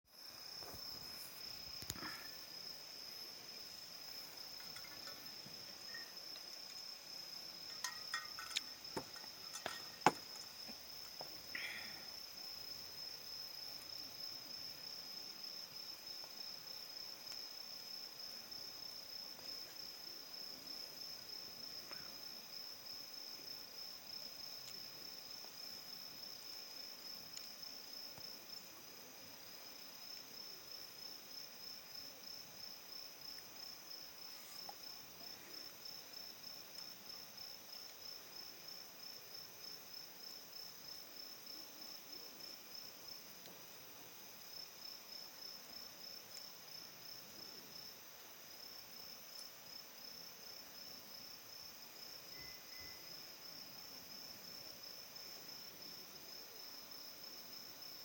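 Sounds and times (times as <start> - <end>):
insects trilling: 0.1 - 48.0, 48.6 - 58.0.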